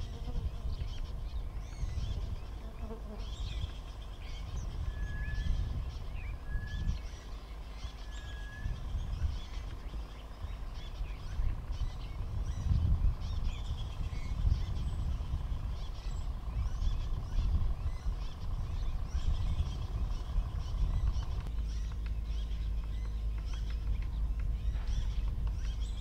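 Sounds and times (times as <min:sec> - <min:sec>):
birds chirping and calling: 0:00.0 - 0:26.0
low rumble: 0:03.4 - 0:26.0.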